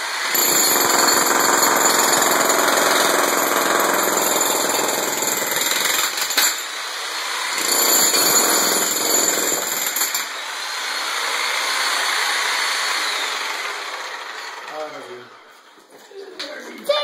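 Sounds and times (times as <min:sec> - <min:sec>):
demolition hammer chiselling concrete: 0:00.0 - 0:15.0.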